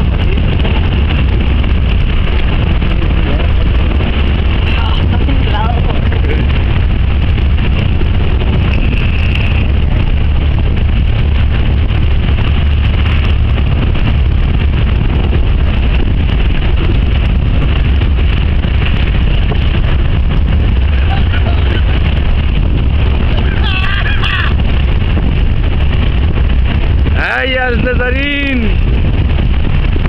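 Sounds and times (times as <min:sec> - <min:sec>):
vehicle engine rumble: 0:00.0 - 0:30.0
wind buffeting microphone: 0:00.0 - 0:30.0.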